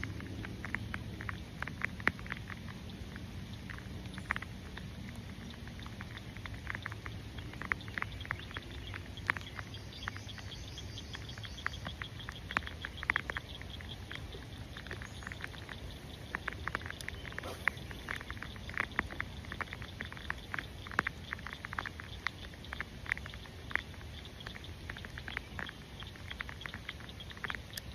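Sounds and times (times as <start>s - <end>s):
raindrops tapping close: 0.0s - 27.9s
rainfall hiss: 0.0s - 27.9s.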